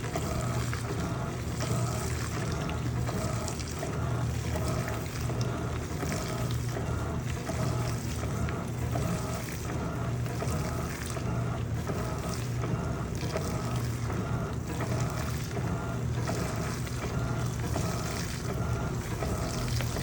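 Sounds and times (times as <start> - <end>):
washing machine motor whine: 0.0 - 20.0.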